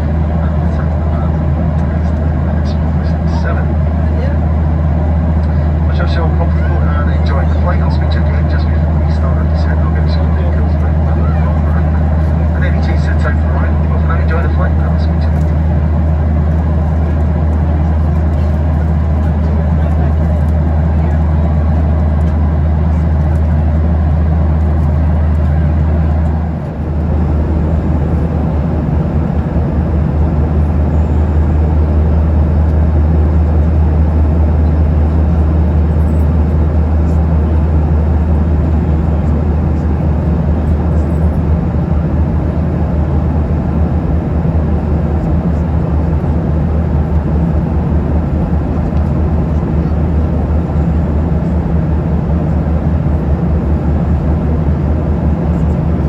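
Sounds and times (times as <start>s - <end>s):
jet engines droning: 0.0s - 56.0s.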